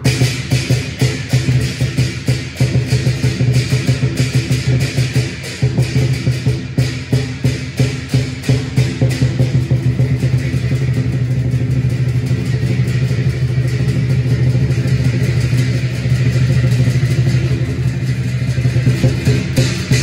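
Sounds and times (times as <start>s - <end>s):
cymbal crashes: 0.0s - 20.0s
drum fast roll: 0.0s - 20.0s.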